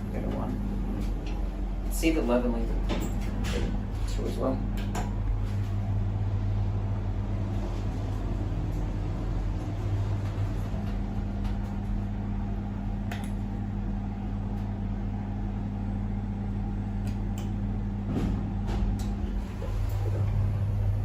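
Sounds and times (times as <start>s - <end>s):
lift motor hum: 0.0s - 21.0s.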